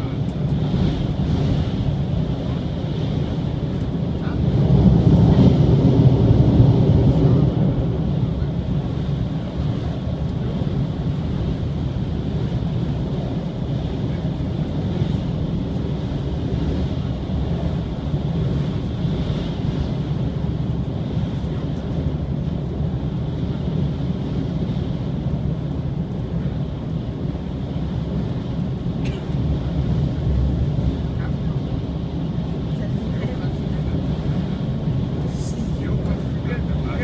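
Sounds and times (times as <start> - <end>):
train rumbling on bridge: 0.0 - 37.0.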